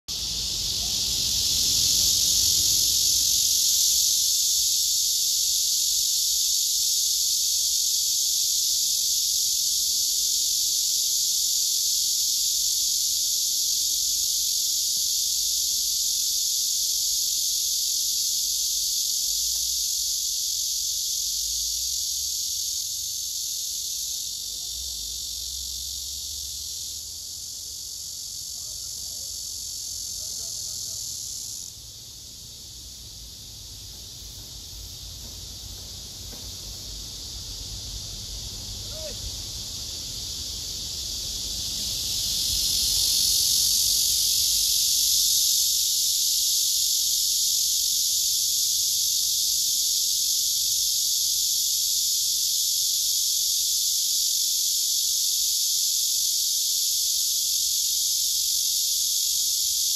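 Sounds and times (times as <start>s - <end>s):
cicada buzzing: 0.1s - 59.9s.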